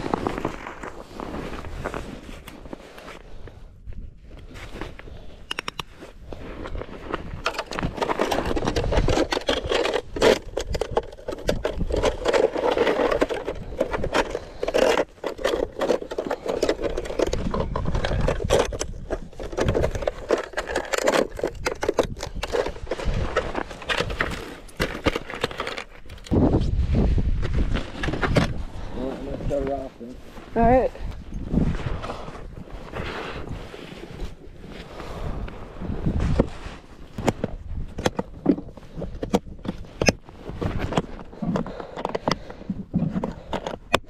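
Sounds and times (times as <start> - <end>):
tip-up scraping and clicking on ice: 0.0 - 26.7, 30.6 - 44.0.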